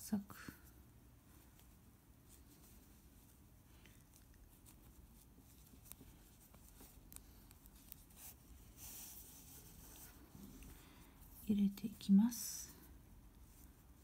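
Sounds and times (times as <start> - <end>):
needle and yarn scratching: 0.5 - 14.0.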